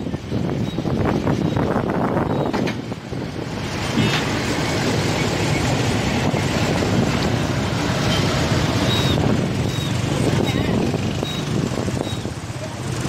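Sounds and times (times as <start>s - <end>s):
heavy truck passing: 0.0s - 13.0s.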